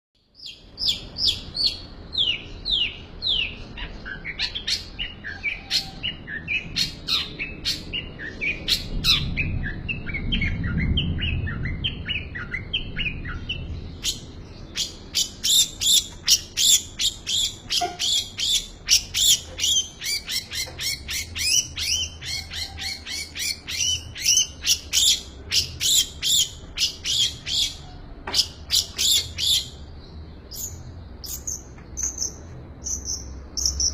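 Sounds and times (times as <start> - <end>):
bird singing varied song: 0.2 - 33.9.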